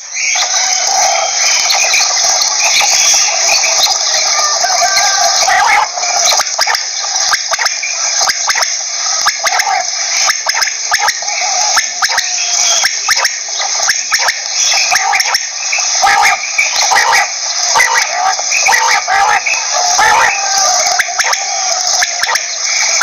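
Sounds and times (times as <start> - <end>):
quail calling: 0.0 - 23.0.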